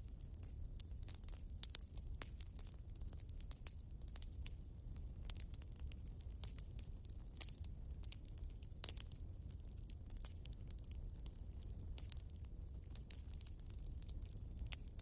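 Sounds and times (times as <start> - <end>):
low rumble of flames: 0.0 - 15.0.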